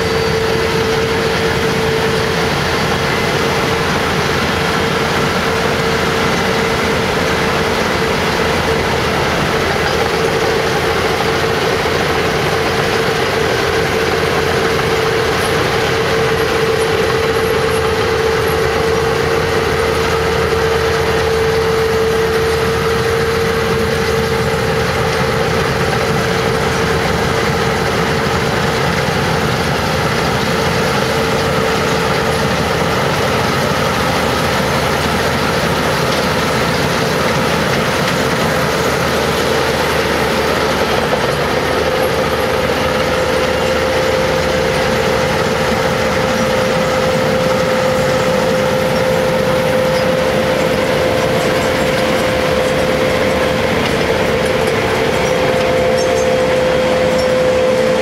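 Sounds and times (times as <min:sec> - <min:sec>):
combine harvester engine drone: 0:00.0 - 0:58.0
high machinery whine: 0:00.0 - 0:58.0.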